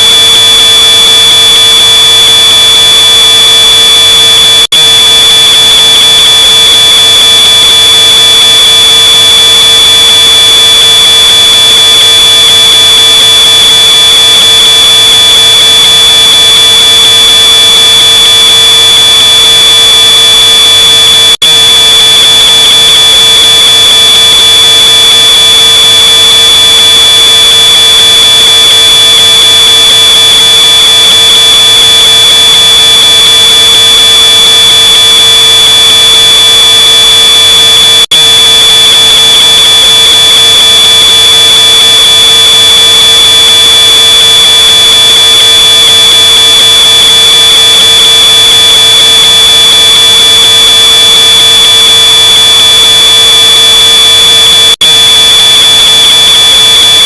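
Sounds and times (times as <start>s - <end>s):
smoke alarm high-pitched tone: 0.0s - 57.0s.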